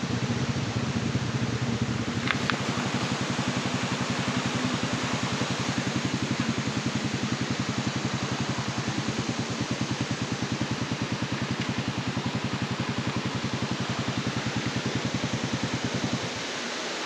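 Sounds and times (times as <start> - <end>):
motorcycle engine idling: 0.0 - 17.0
river rushing: 0.0 - 17.0.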